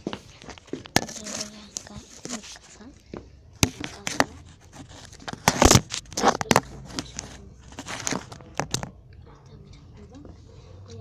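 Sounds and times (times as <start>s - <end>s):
handling scraping and rustling: 0.0s - 9.0s.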